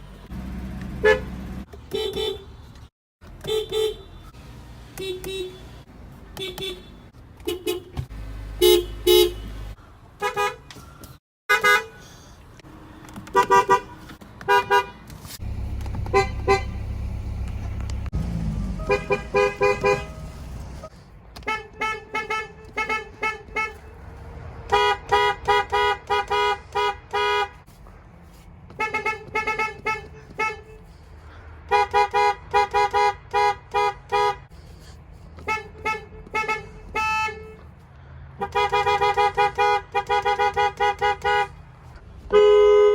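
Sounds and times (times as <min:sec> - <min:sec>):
car horns honking: 0:00.0 - 0:10.8, 0:11.5 - 0:12.2, 0:13.1 - 0:24.0, 0:24.7 - 0:27.7, 0:28.7 - 0:30.9, 0:31.6 - 0:34.5, 0:35.4 - 0:37.7, 0:38.4 - 0:41.7, 0:42.3 - 0:42.9.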